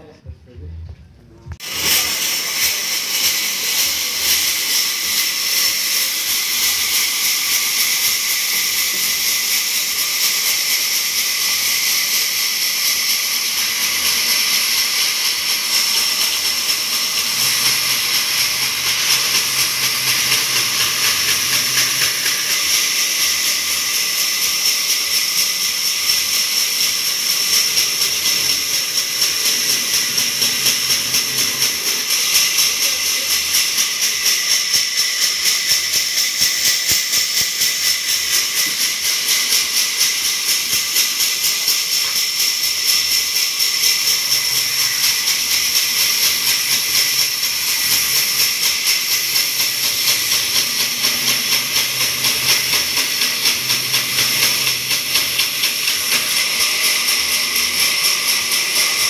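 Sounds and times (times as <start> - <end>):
band saw cutting wood: 1.6 - 59.0.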